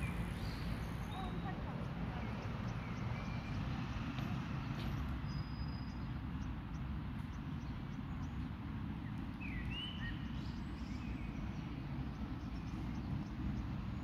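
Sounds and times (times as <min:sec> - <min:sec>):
bird chirp: 0:00.0 - 0:03.7, 0:04.8 - 0:14.0.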